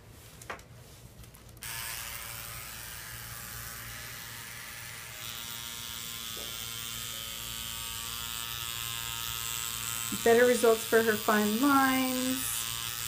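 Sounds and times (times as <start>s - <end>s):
microneedling pen motor whir: 1.6s - 13.0s.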